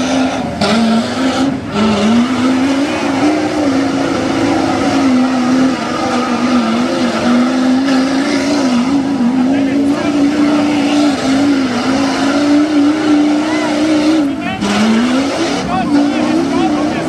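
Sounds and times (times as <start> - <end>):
truck engine revving high: 0.0 - 17.0
tyres churning mud: 0.0 - 17.0.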